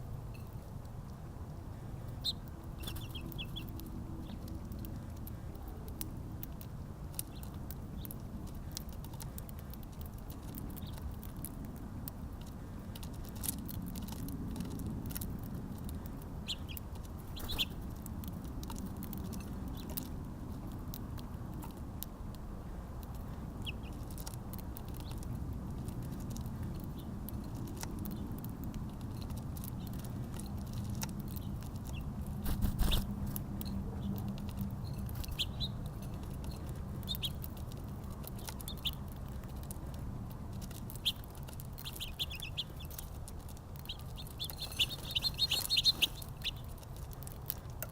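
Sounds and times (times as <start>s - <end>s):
low background rumble: 0.0s - 47.9s
small birds chirping: 0.0s - 47.9s
small clicks and pattering: 0.3s - 47.9s.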